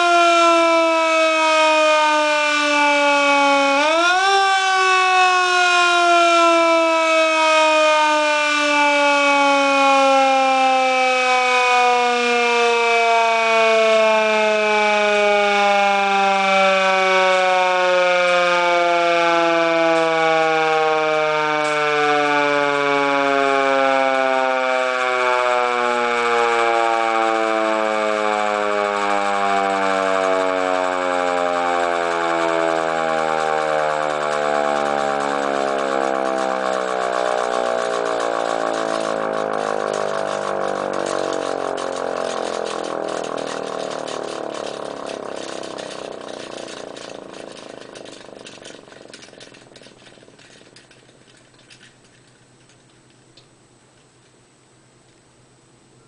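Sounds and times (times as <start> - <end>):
mechanical siren winding down: 0.0 - 52.4.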